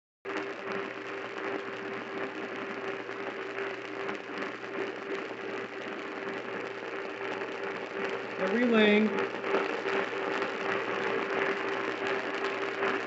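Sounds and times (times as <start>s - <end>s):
am radio static and hiss: 0.3s - 13.0s.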